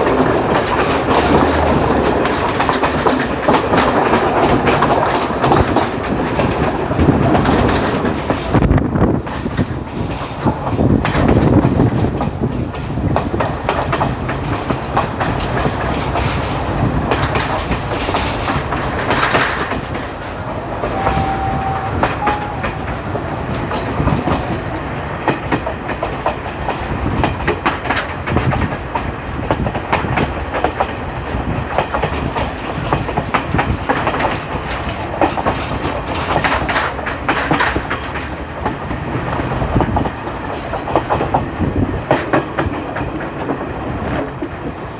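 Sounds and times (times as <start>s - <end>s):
train rumbling on track: 0.0s - 44.9s
wheels clacking over rail joints: 0.0s - 44.9s.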